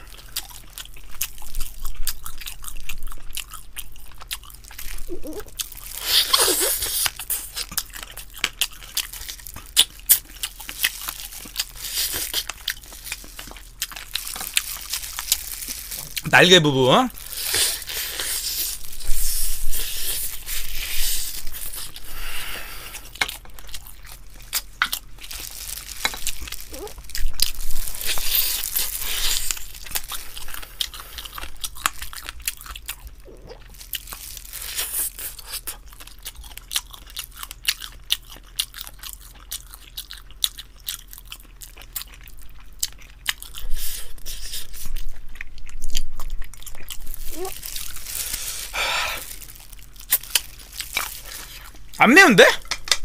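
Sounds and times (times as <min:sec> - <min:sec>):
chewing and crunching: 0:00.0 - 0:53.0.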